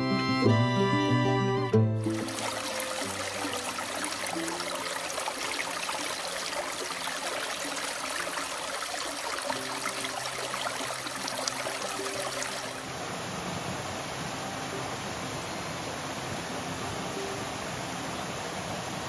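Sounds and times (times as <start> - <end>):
slow background music: 0.0 - 18.8
running water: 1.9 - 19.0.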